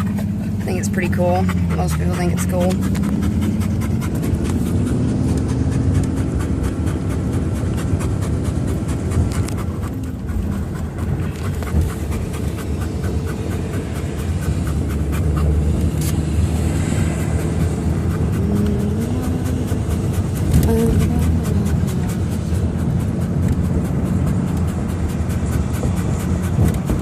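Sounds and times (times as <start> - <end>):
car cabin road rumble: 0.0 - 27.0
dog panting: 0.0 - 27.0.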